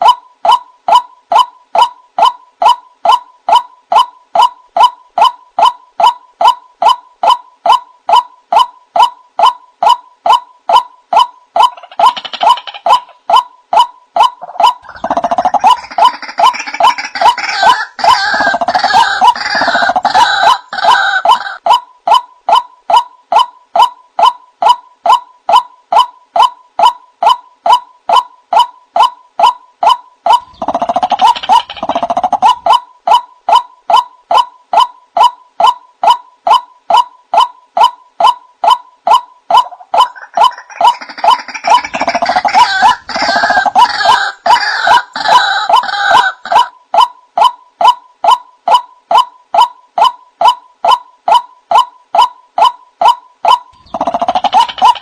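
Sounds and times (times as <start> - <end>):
bird repeating identical notes: 0.0 - 55.0
harsh bird calls: 0.0 - 55.0.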